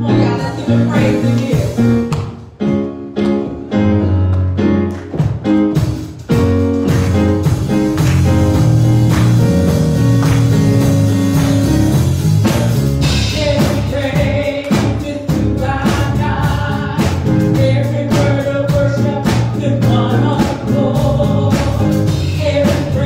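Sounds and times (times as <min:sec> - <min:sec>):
instrumental gospel music: 0:00.0 - 0:23.0.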